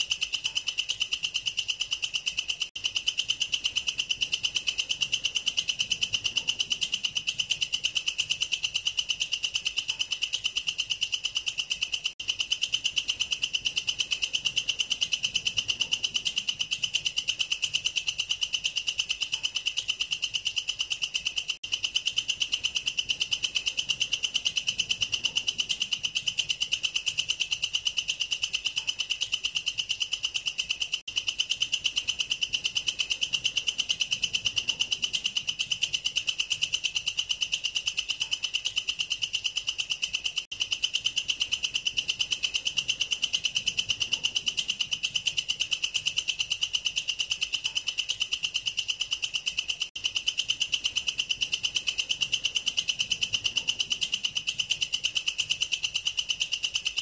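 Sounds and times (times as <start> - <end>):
katydid stridulating: 0.0 - 57.0.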